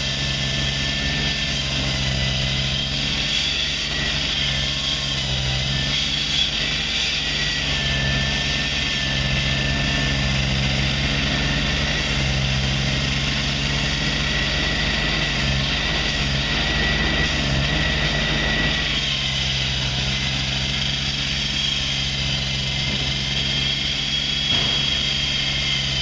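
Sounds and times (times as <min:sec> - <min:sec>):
diesel machinery engine drone: 0:00.0 - 0:26.0
thin high whine: 0:00.0 - 0:26.0.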